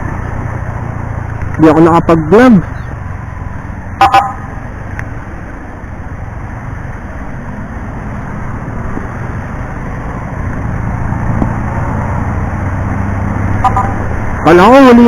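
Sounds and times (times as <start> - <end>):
scooter engine hum: 0.0 - 15.0.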